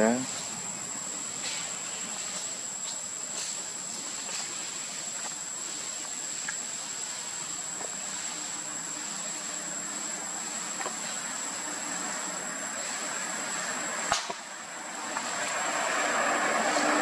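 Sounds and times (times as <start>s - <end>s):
forest insects droning: 0.0s - 17.0s.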